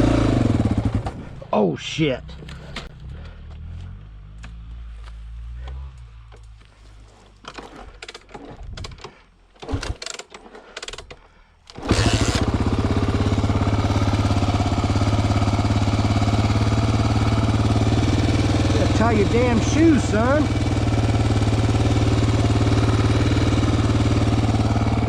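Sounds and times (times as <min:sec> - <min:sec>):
motorcycle engine starting and idling: 0:00.0 - 0:25.0.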